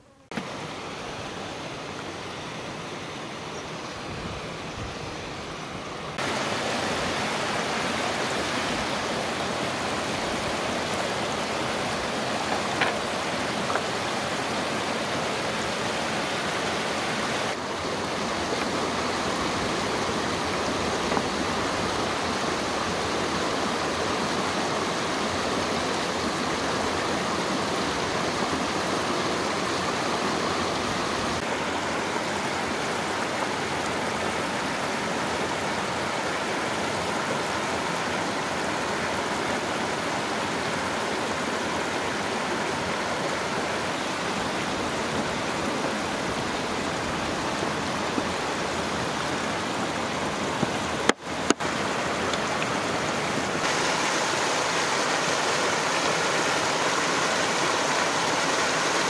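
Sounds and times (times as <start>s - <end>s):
stream rushing over rocks: 0.3s - 59.0s.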